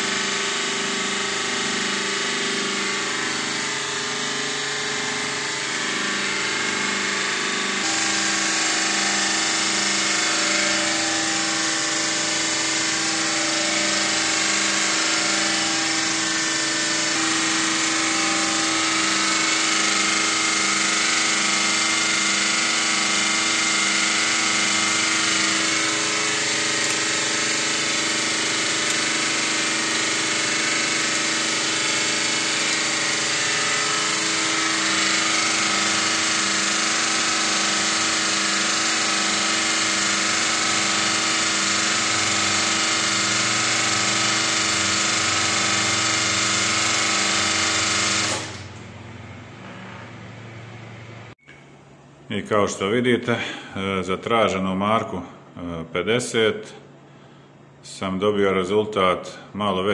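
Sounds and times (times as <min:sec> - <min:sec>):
hydraulic pump humming: 0:00.0 - 0:55.6.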